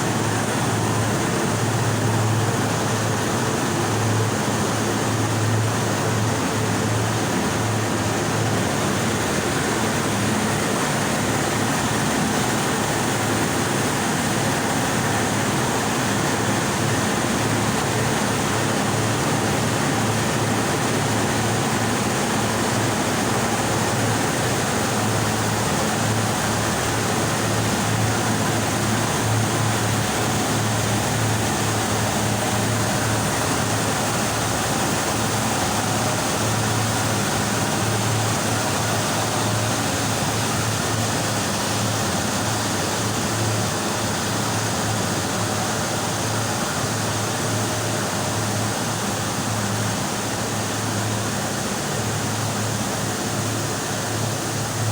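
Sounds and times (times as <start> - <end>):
steam boiler rushing noise: 0.0 - 54.9.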